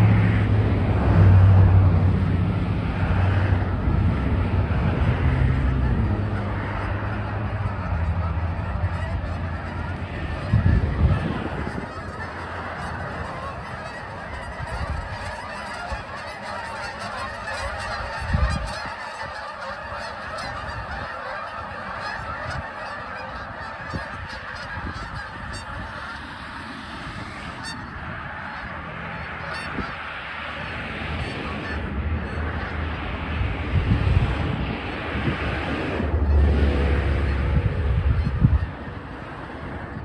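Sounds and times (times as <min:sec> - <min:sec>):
flock of geese honking: 0:00.0 - 0:40.0.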